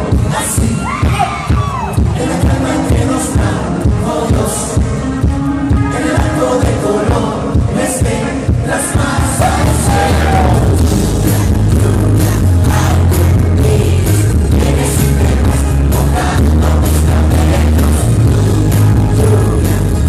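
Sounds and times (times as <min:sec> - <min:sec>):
crowd singing along: 0:00.0 - 0:20.0
drum beat: 0:00.0 - 0:20.0
live band with singing: 0:00.0 - 0:20.0.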